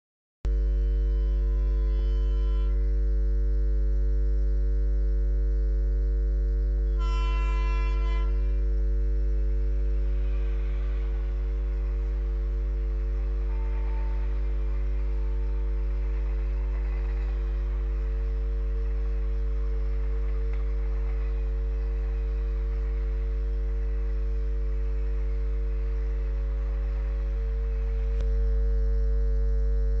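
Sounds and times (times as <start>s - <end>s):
loud electrical hum: 0.5s - 30.0s.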